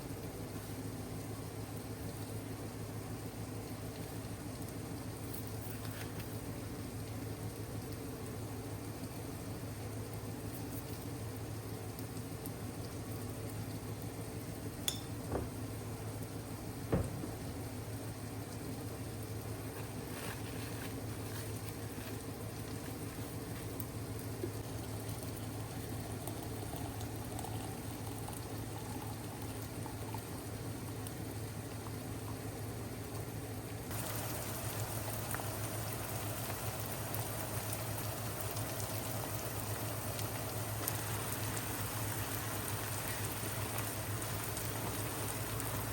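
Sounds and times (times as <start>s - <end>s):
water boiling: 0.0s - 45.9s.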